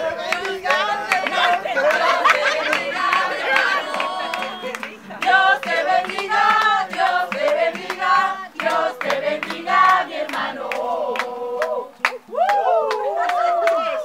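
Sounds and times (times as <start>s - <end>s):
group of people singing: 0.0s - 12.2s
acoustic guitar: 0.0s - 12.3s
rhythmic hand clapping: 0.0s - 14.0s.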